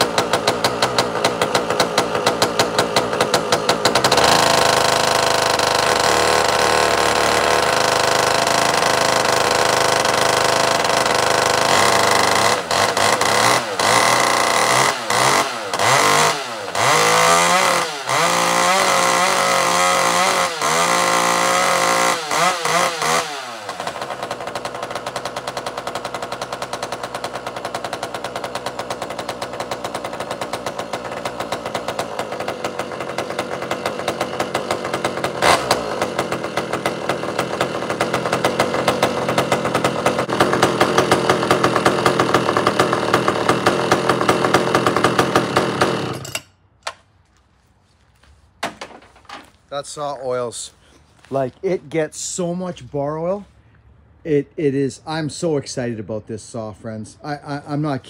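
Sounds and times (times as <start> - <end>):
chainsaw revving and idling: 0.0 - 46.5, 49.4 - 54.4, 56.5 - 58.0.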